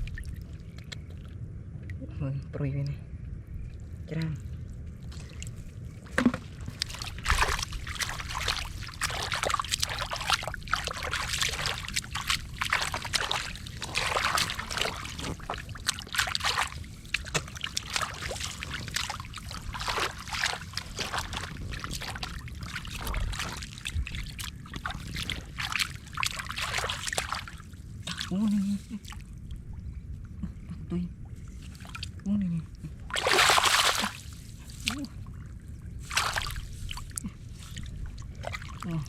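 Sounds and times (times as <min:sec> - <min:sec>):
muddy water splashing: 0:00.0 - 0:01.4, 0:03.6 - 0:29.9, 0:31.3 - 0:39.0.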